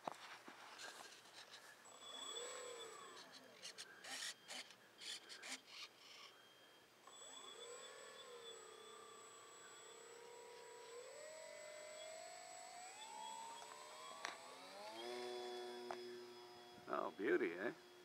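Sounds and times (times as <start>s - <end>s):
electric motor propeller whine: 0.0s - 18.0s.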